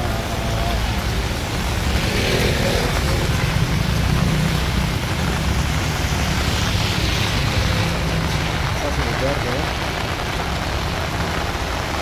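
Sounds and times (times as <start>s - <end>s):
low traffic rumble: 0.0s - 12.0s
rain: 0.0s - 12.0s
tyres hissing on wet road: 0.0s - 12.0s.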